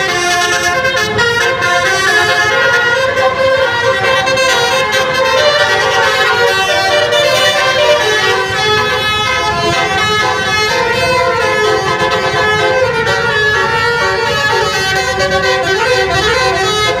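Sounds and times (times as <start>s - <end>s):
bus horn playing a melody: 0.0s - 17.0s.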